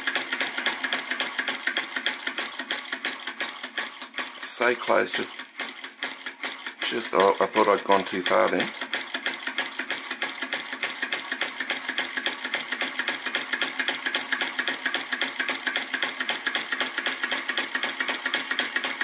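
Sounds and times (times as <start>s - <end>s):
small engine rapid ticking: 0.0s - 19.0s.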